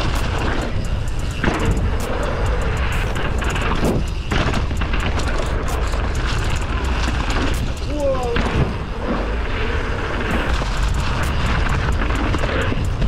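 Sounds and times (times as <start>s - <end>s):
bike rattling clicks: 0.0s - 9.0s, 9.6s - 13.0s
wind buffeting microphone: 0.0s - 13.0s.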